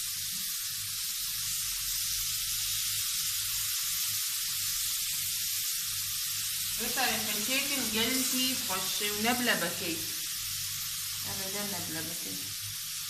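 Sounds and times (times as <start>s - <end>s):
tomato slices sizzling: 0.0s - 13.0s.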